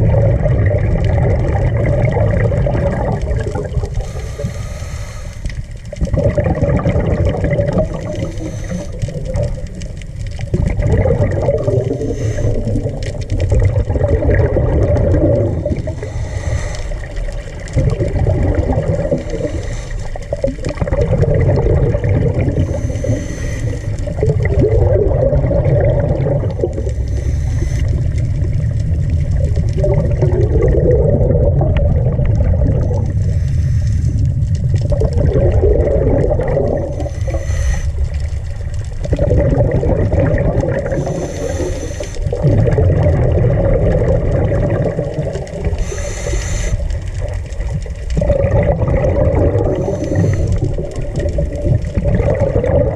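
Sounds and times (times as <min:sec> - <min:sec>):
churning bubbling water: 0:00.0 - 0:04.5, 0:05.7 - 0:52.9.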